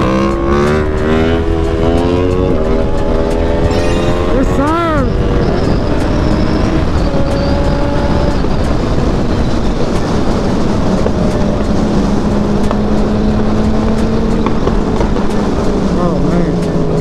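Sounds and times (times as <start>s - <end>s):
motorcycle engine cruising: 0.0s - 17.0s
wind noise on microphone: 0.0s - 17.0s.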